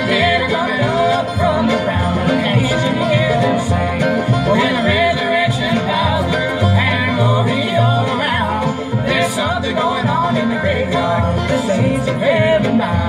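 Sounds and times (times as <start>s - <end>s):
acoustic guitars: 0.0s - 13.0s
banjo: 0.0s - 13.0s
bowed fiddle: 0.0s - 13.0s
upright bass: 0.0s - 13.0s.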